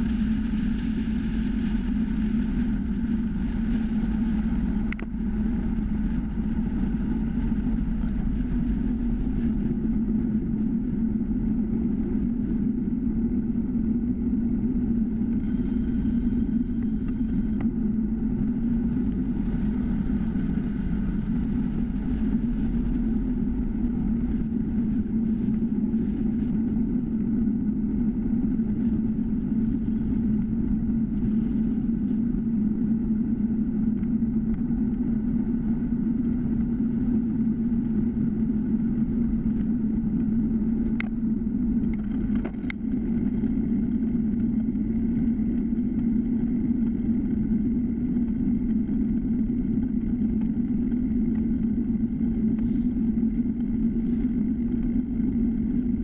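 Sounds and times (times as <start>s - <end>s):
road vibration: 0.0s - 56.0s
wind rumble: 0.0s - 56.0s.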